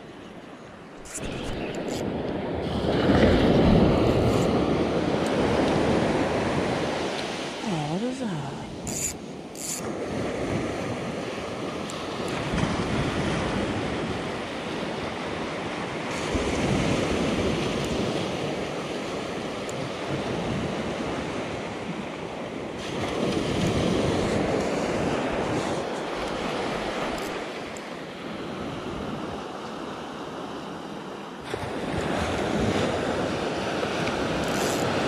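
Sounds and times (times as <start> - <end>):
small waves washing up beach: 0.0 - 35.0.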